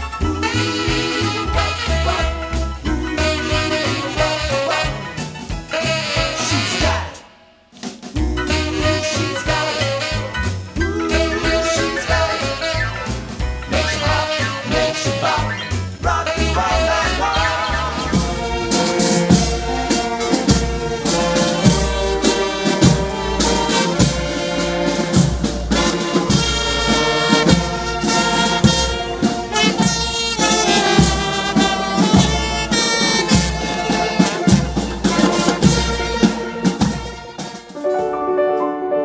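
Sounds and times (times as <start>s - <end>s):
saxophones and trumpets: 0.0s - 7.6s, 8.2s - 39.0s
steady drum beat: 0.1s - 37.8s.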